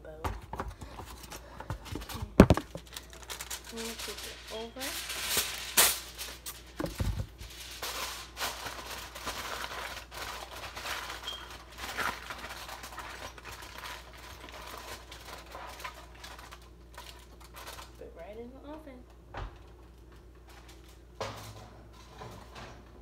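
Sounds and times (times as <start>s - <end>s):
aluminium foil crinkling: 0.8s - 21.2s.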